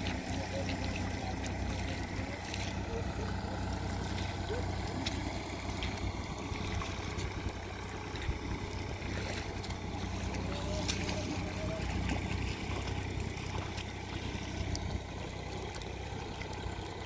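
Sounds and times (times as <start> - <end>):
splashes and squelches in mud: 0.0 - 17.0.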